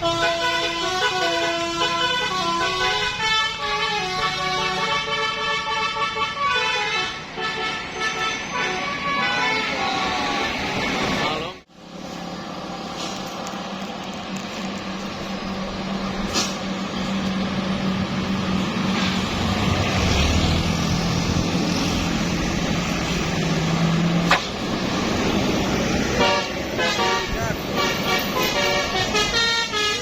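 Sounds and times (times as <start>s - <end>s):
bus engine hum: 0.0s - 30.0s
road noise: 0.0s - 30.0s.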